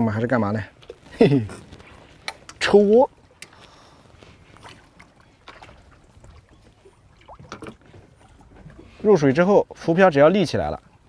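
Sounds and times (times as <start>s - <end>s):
faint water sounds: 0.0s - 11.0s.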